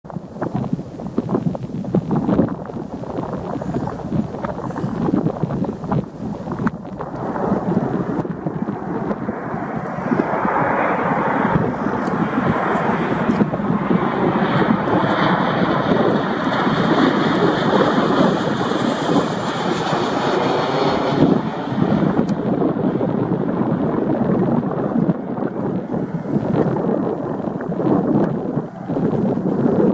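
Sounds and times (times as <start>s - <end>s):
high fan whine: 0.1s - 29.9s
jet engines rushing overhead: 0.1s - 29.9s.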